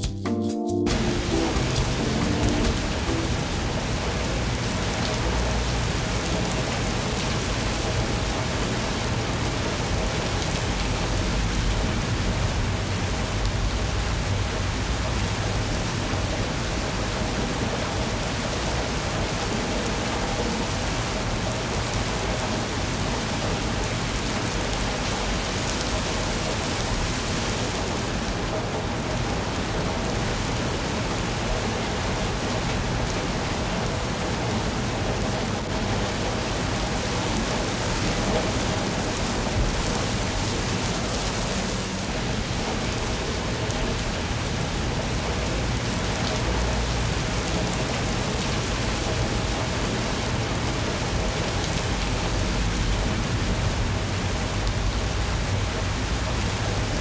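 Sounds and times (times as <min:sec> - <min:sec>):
steady rain hiss: 0:00.9 - 0:57.0.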